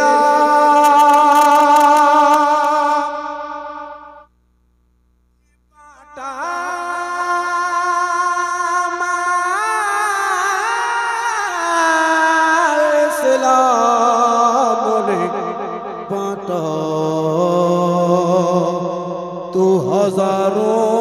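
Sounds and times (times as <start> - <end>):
man singing: 0.0 - 4.0, 5.4 - 21.0.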